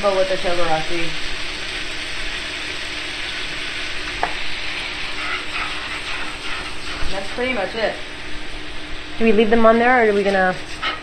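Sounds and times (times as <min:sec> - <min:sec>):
peppers sizzling in a pan: 0:00.0 - 0:11.0.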